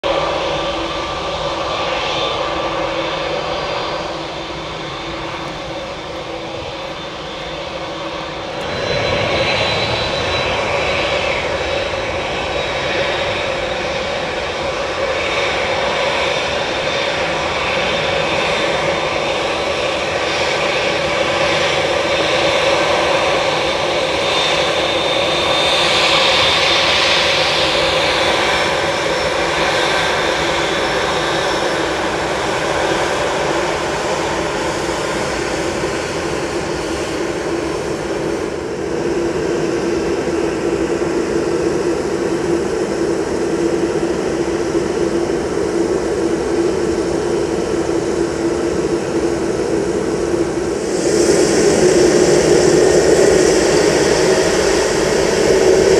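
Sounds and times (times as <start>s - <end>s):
jet engines taxiing: 0.0s - 55.9s.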